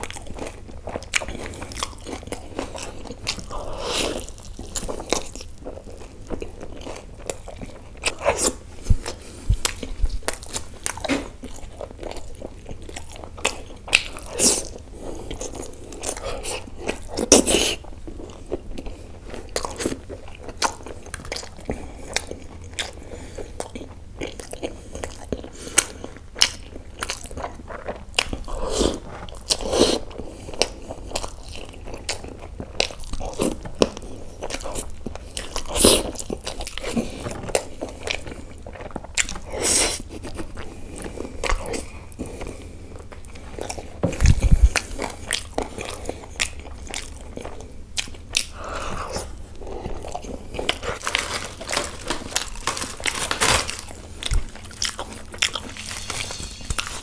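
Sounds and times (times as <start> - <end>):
man chewing with mouth smacks: 0.0 - 57.0.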